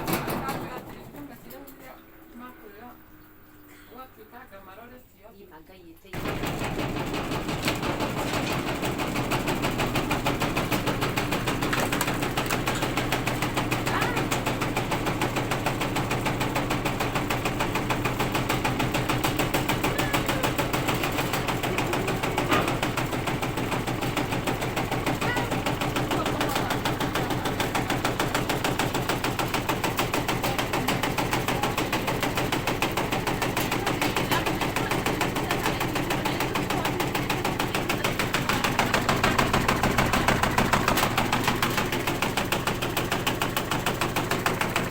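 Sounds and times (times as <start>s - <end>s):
washing machine spinning: 0.0s - 5.0s, 6.1s - 44.9s
cabinet knocking and rattling: 6.2s - 44.9s.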